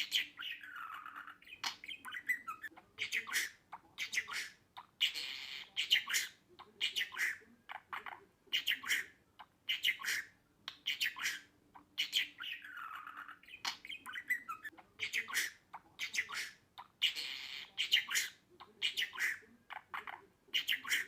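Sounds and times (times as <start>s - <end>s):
budgerigar chirping: 0.0s - 21.0s.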